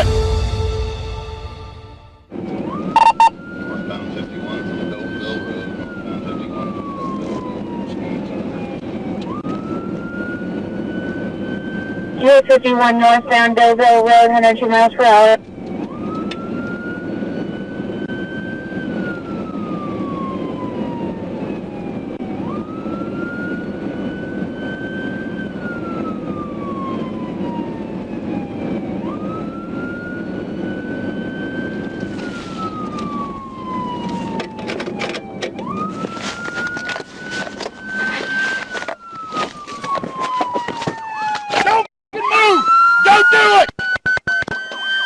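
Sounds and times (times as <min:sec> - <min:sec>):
police siren wailing: 0:00.0 - 0:45.0
road and engine noise: 0:00.0 - 0:45.0.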